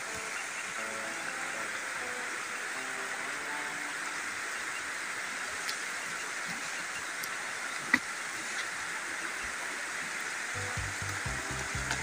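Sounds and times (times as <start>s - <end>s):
running spring water: 0.0s - 12.0s.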